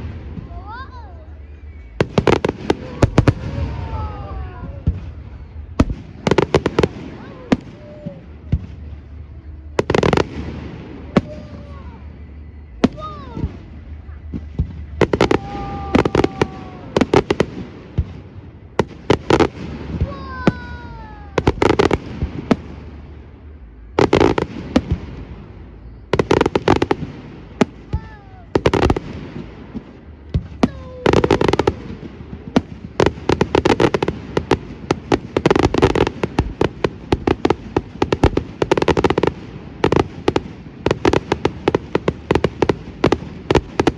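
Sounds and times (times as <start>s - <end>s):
fireworks bangs: 0.0s - 43.9s
fireworks crackling: 0.0s - 43.9s.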